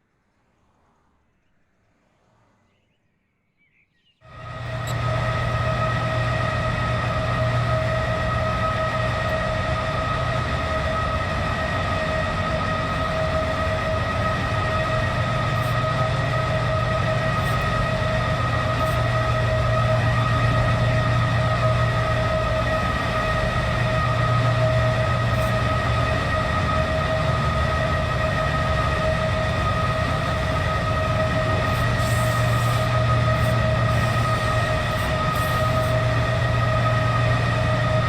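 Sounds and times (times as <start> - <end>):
diesel locomotive engine hum: 4.2 - 38.0
high-pitched whine: 4.2 - 38.0.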